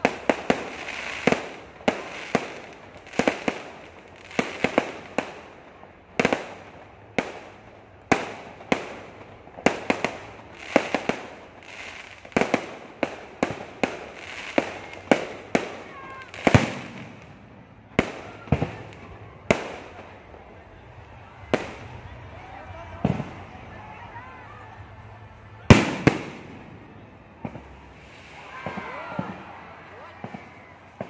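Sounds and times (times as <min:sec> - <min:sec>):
fireworks bangs: 0:00.0 - 0:31.0
fireworks hiss: 0:00.0 - 0:31.0.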